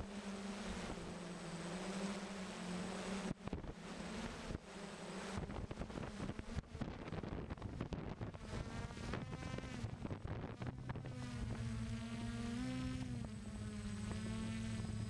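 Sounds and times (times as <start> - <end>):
drone motors buzzing: 0.0 - 15.0.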